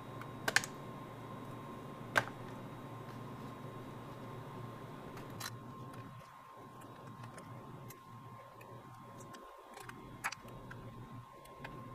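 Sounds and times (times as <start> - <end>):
faint steady hum: 0.0 - 11.9.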